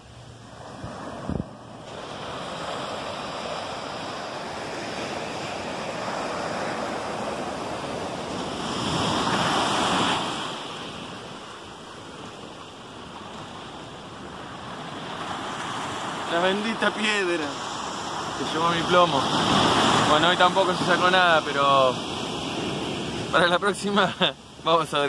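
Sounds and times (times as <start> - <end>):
waves breaking on a beach: 0.0 - 25.0.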